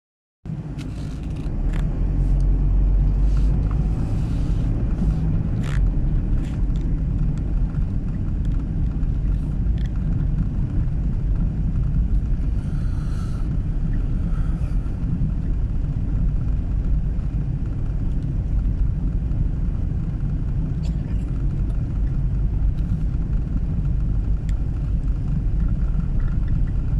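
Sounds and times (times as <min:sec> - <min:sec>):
car tyres and engine rumbling: 0:00.5 - 0:26.9.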